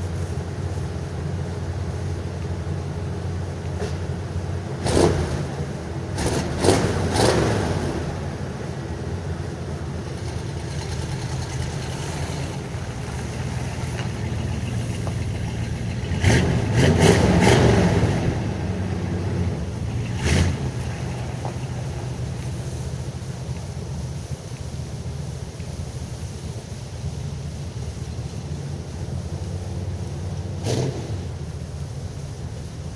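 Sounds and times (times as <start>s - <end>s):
engine idling and revving: 0.0s - 32.9s.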